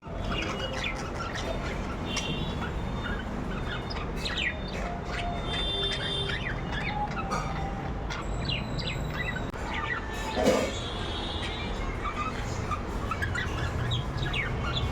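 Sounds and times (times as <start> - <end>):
budgerigars chirping: 0.0 - 14.9.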